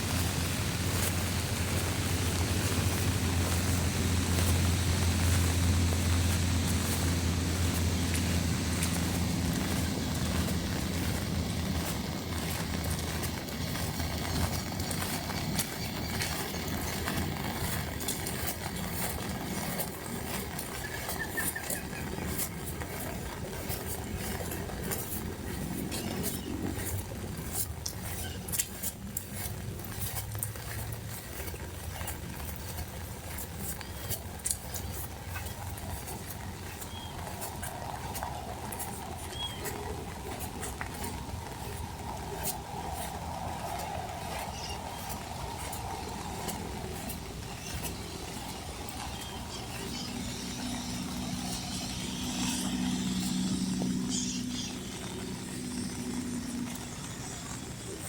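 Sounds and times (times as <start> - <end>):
rain falling: 0.0 - 58.0
raindrops ticking: 0.0 - 58.0.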